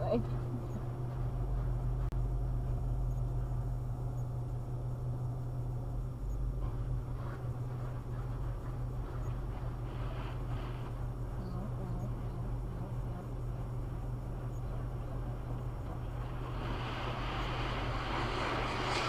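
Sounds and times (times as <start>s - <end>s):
car wash machinery hum: 0.0s - 19.0s.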